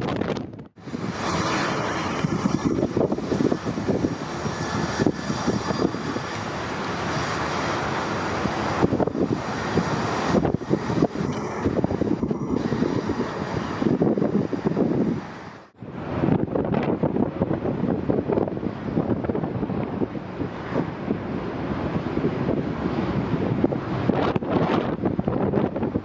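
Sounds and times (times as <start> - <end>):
wind buffeting microphone: 0.0 - 26.0
jet engine rush: 0.1 - 26.0.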